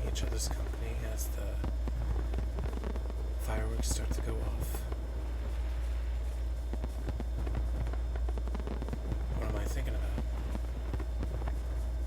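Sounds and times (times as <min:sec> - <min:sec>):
fireworks crackling and popping: 0:00.0 - 0:12.0
low rumble: 0:00.0 - 0:12.0.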